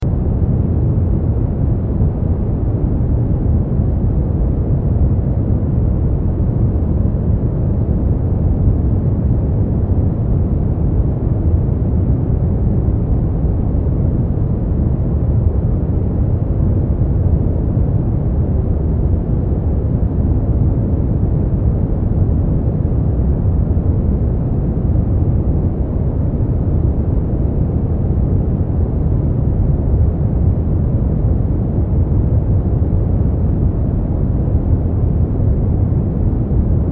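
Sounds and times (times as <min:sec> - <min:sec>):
deep rumbling brown noise: 0:00.0 - 0:36.9.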